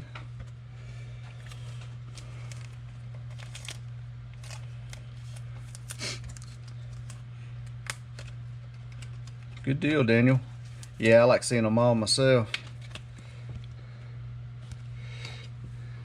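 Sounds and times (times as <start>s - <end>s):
steady low hum: 0.0s - 16.0s
trading cards and foil packs handled: 1.0s - 11.2s, 12.3s - 13.8s, 14.6s - 15.8s.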